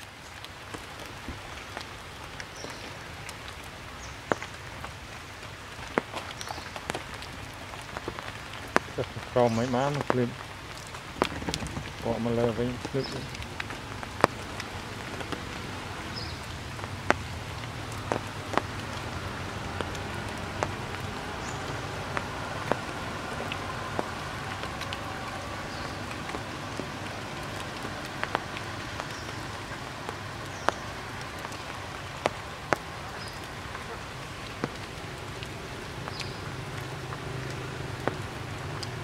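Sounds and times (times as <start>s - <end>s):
rain falling through foliage: 0.0s - 39.0s
single raindrops ticking close: 0.0s - 39.0s.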